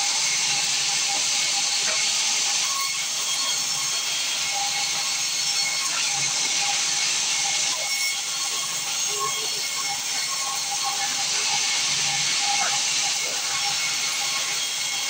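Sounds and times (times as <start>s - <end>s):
saw cutting through wood: 0.0s - 15.0s.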